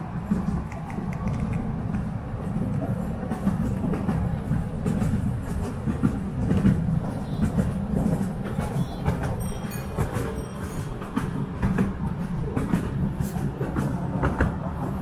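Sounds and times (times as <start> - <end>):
miniature train rumbling: 0.0 - 15.0
wheels clicking on rails: 0.2 - 15.0.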